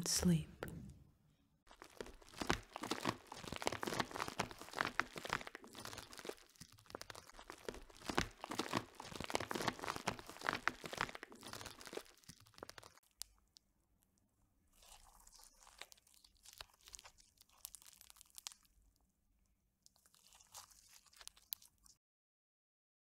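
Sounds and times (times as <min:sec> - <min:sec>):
bubble wrap pouch crinkling: 0:01.7 - 0:13.7, 0:14.7 - 0:19.1, 0:19.8 - 0:22.0.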